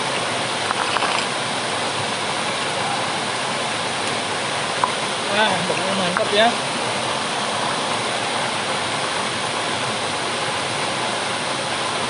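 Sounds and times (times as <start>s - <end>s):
water pouring into pool: 0.0s - 11.8s.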